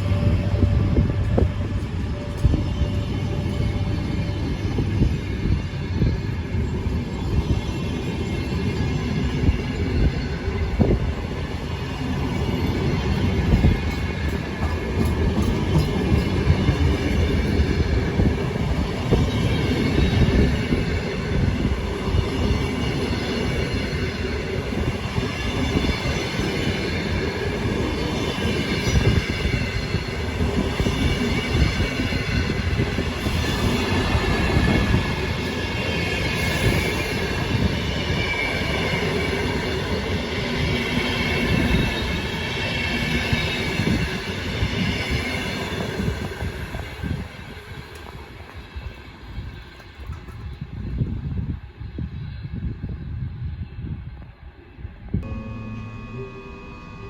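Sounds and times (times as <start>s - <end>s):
train wagons rumbling on track: 0.0s - 51.2s.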